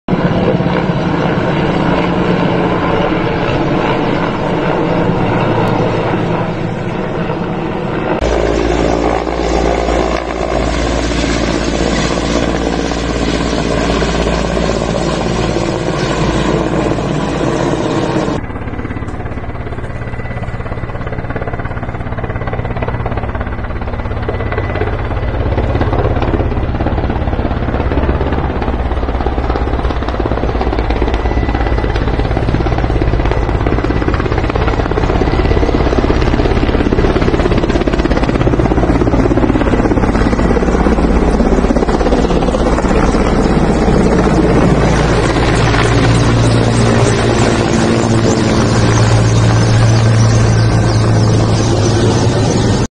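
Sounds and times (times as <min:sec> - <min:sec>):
helicopter rotor and engine drone: 0:00.1 - 0:52.9.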